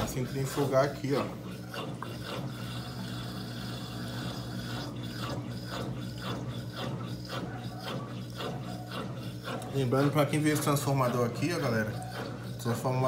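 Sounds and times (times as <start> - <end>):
washing machine spinning: 0.0 - 13.0.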